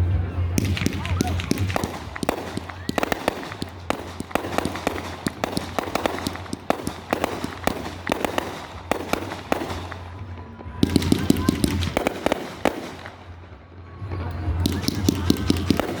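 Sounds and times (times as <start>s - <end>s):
fireworks crackling: 0.4s - 16.0s.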